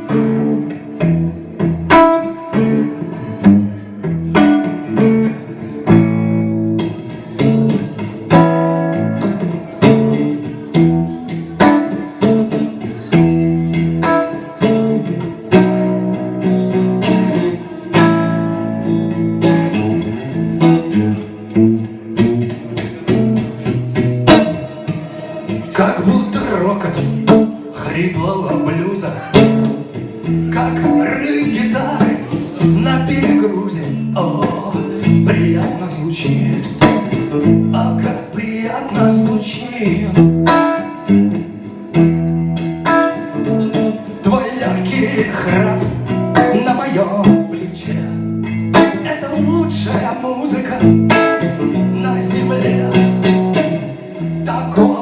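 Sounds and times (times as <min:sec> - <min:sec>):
man singing: 0:00.0 - 0:13.4, 0:17.0 - 0:42.0, 0:43.1 - 0:55.0
guitar: 0:00.0 - 0:55.0
live blues song with band: 0:00.0 - 0:55.0.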